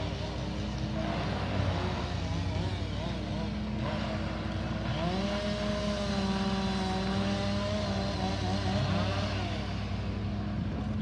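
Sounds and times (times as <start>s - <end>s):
engine low drone: 0.0s - 11.0s.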